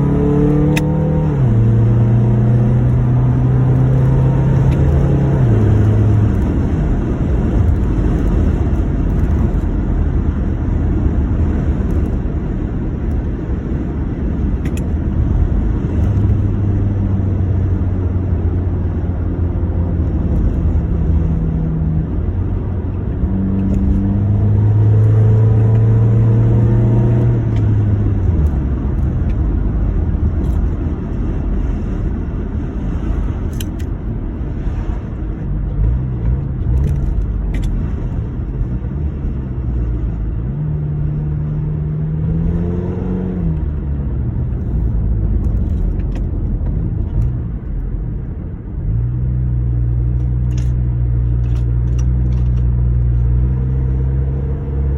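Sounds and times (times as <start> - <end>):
car engine rumbling and revving: 0.0 - 54.9.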